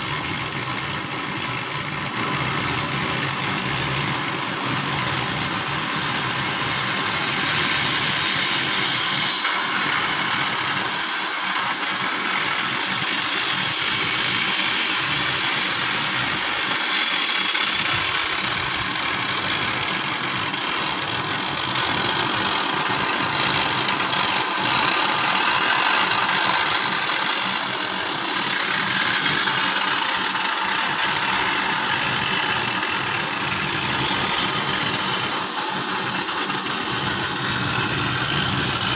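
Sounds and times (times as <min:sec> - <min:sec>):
cutting torch hissing: 0:00.0 - 0:38.9.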